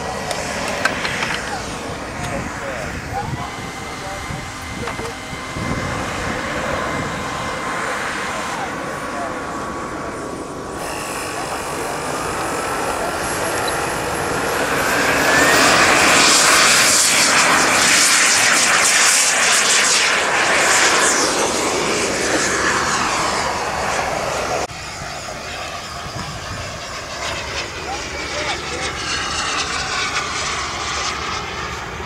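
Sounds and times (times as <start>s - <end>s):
model jet engine whine and hiss: 0.0s - 32.0s.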